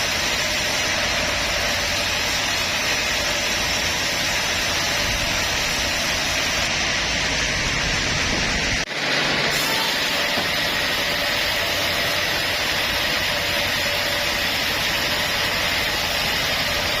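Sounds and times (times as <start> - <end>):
bandsaw running: 0.0 - 17.0.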